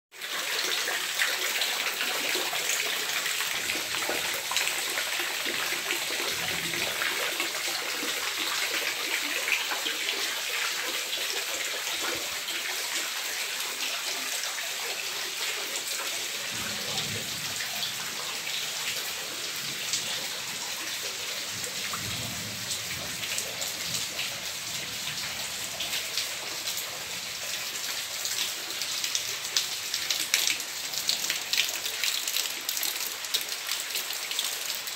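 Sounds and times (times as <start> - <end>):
rain pattering on water and concrete: 0.1 - 34.9
water pouring off roof into pool: 0.1 - 34.9.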